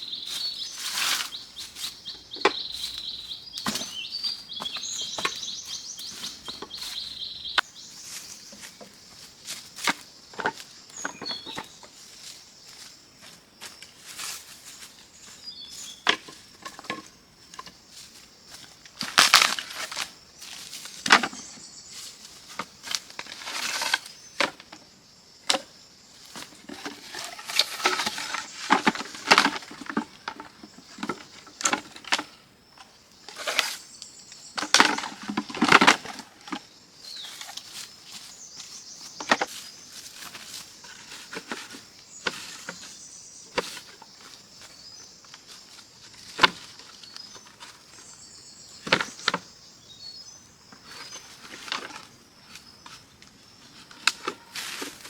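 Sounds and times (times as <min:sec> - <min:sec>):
steady high-pitched hiss: 0:00.0 - 0:55.0.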